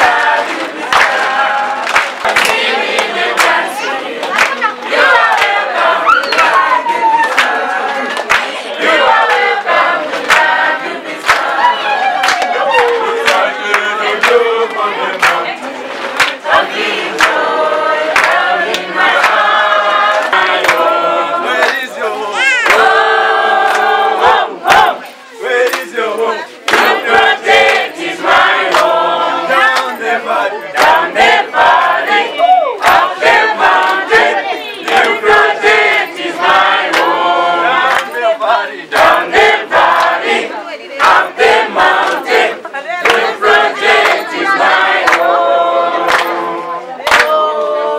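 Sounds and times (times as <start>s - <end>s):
hand claps: 0.0s - 22.0s, 22.6s - 32.2s, 32.8s - 40.4s, 41.0s - 45.4s, 46.0s - 47.8s
group singing in chorus: 0.0s - 47.9s.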